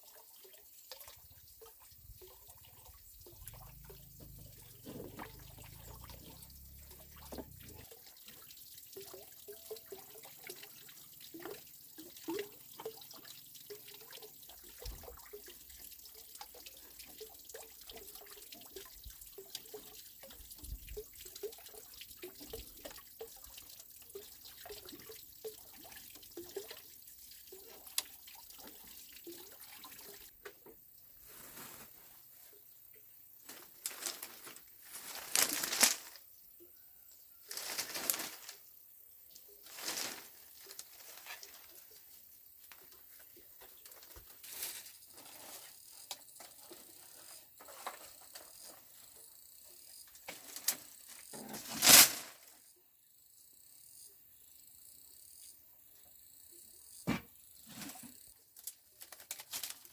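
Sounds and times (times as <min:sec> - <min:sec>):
water trickling and dripping: 0:00.0 - 0:31.1, 0:32.5 - 0:51.5.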